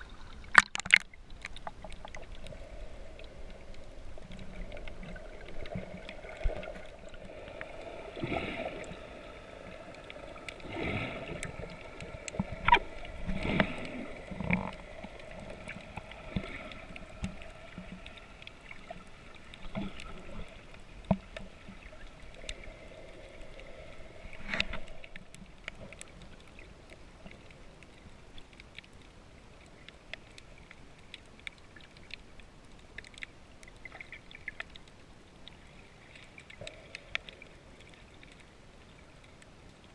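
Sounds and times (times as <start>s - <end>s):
water swishing underwater: 0.0s - 39.9s.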